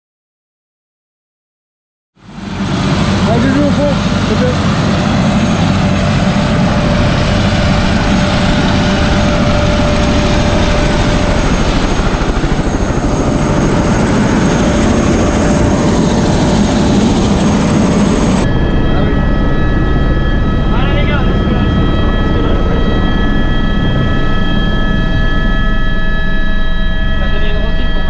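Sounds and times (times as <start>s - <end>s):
helicopter rotor and turbine: 2.2s - 28.0s.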